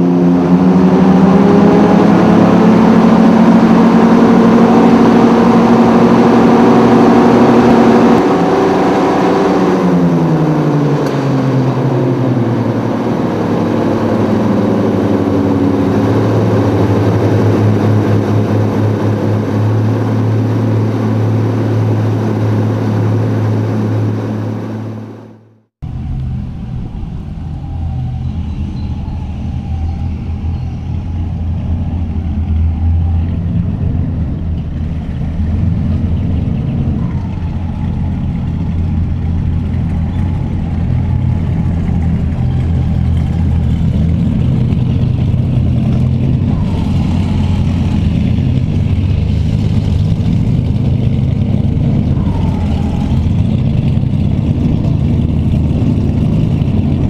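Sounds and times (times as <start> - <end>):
boat engines droning: 0.0 - 57.0
engine idling close by: 10.0 - 57.0.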